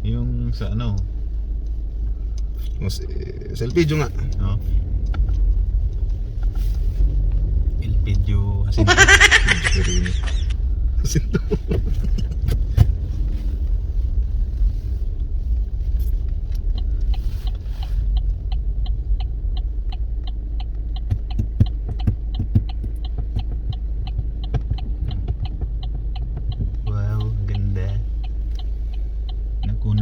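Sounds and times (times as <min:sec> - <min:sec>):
road rumble inside car: 0:00.0 - 0:30.0
light regular ticking: 0:00.7 - 0:09.2, 0:10.1 - 0:30.0.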